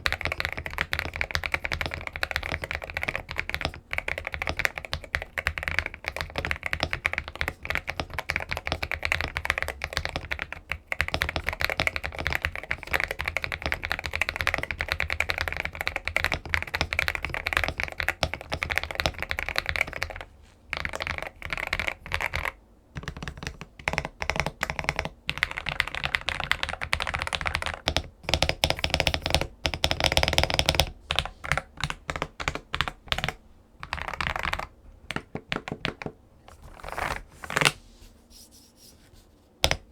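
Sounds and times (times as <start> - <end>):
mechanical keyboard typing: 0.0 - 36.2.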